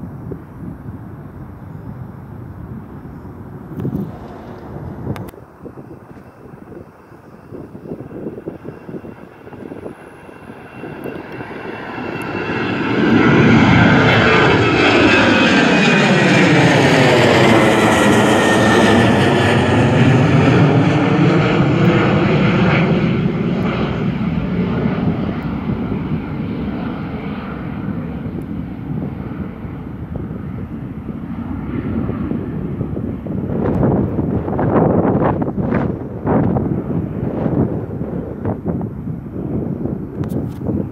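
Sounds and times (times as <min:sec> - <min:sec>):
jet airliner engines roaring: 0:00.0 - 0:40.9.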